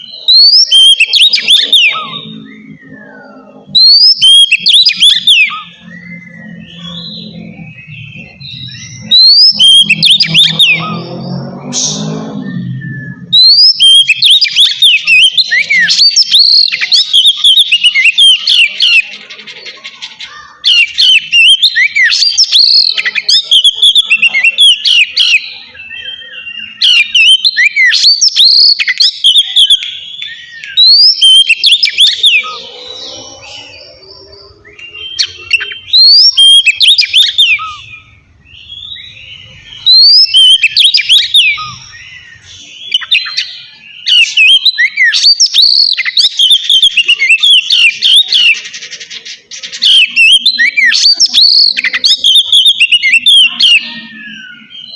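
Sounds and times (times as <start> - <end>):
bird singing whistled notes: 0.0 - 19.4, 20.2 - 54.9.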